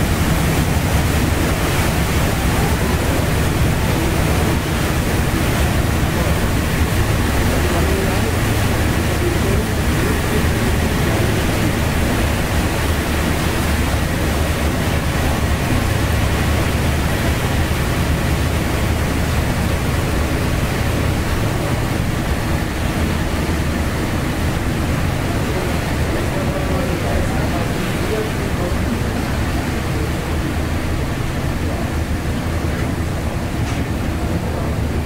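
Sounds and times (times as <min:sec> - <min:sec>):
churning water rushing: 0:00.0 - 0:35.0
constant low rumble: 0:00.0 - 0:35.0.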